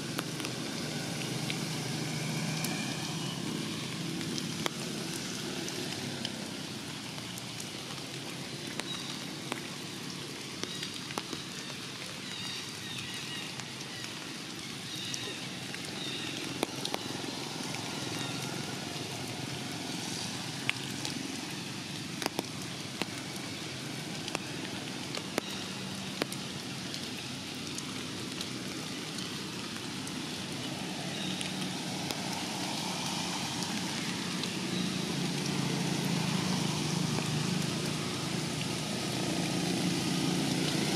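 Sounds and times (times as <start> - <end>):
drips on leaves: 0.0 - 40.9
rain falling on leaves: 0.0 - 40.9.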